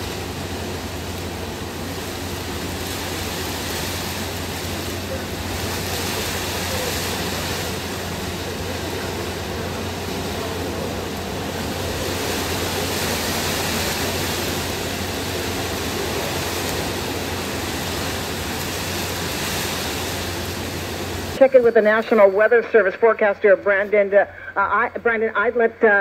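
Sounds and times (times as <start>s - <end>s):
constant low hum: 0.0s - 26.0s
storm wind and rain: 0.0s - 26.0s.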